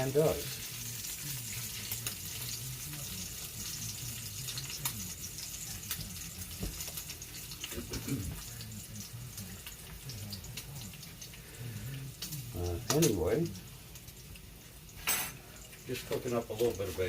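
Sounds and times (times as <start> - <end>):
bacon sizzling in a skillet: 0.0 - 17.0.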